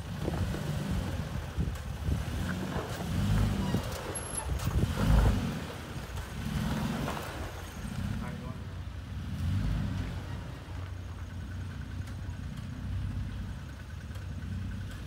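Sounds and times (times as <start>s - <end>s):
truck engine at low revs: 0.0s - 15.0s.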